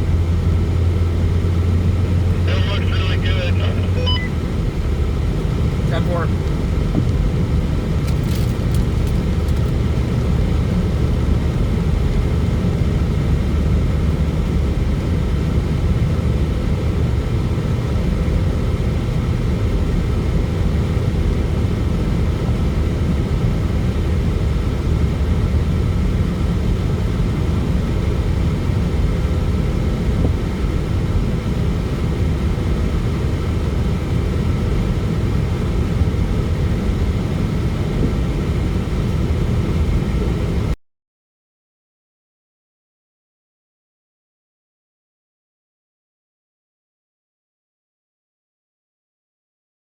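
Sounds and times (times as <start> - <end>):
car interior road and engine drone: 0.0 - 40.8.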